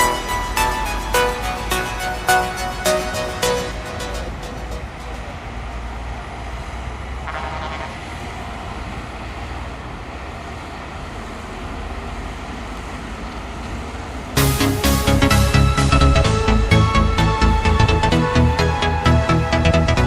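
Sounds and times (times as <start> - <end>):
diesel machinery engine rumble: 0.0 - 20.0.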